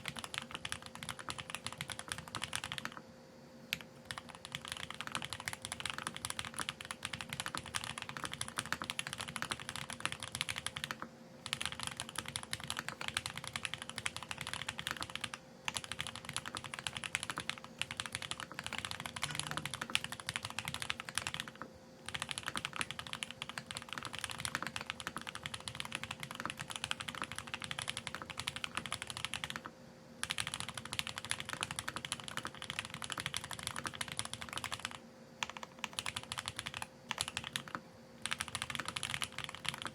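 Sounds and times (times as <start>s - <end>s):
fast typing on mechanical keyboard: 0.0s - 3.0s, 3.7s - 39.9s.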